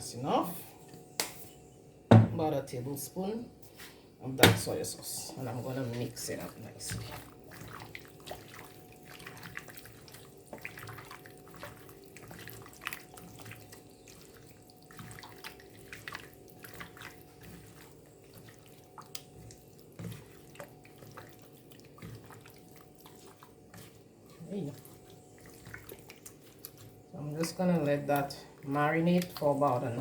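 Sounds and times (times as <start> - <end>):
wet squelches of meat mixing: 3.8 - 30.0.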